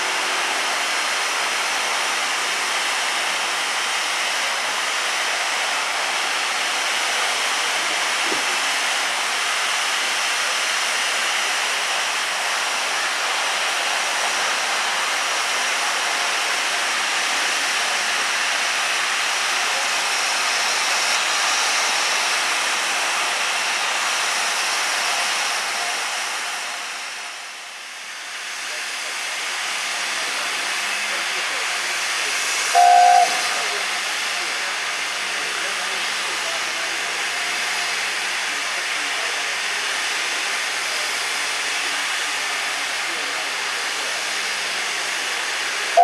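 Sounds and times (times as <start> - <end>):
steam locomotive hissing steam: 0.0 - 46.0.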